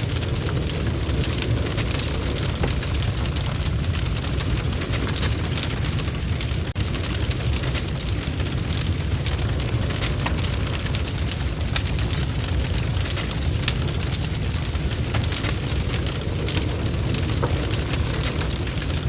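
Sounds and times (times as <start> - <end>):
low rumble of fire flames: 0.0 - 19.0
wood fire popping and snapping: 0.0 - 19.0.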